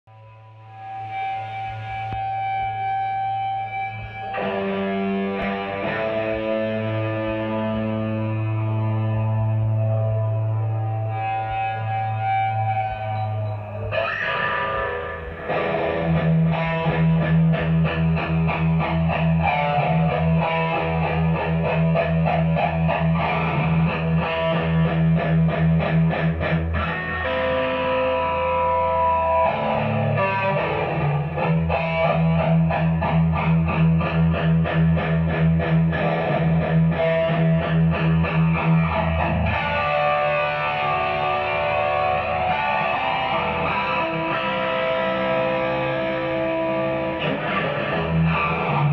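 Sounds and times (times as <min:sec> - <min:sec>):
electric guitar riff: 0:00.1 - 0:48.9.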